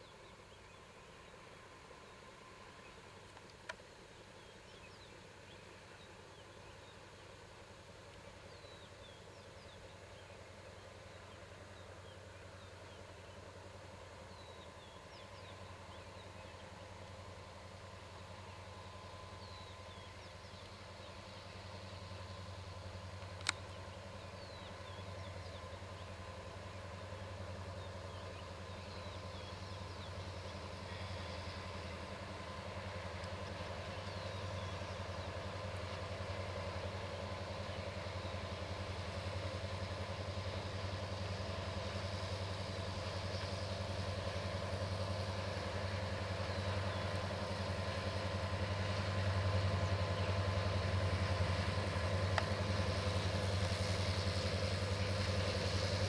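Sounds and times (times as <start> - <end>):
diesel locomotive engines humming: 0.0 - 56.0.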